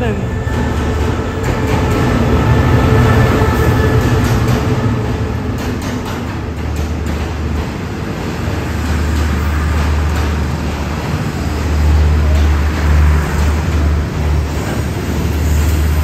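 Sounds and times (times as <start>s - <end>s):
locomotive engine drone: 0.0s - 16.0s.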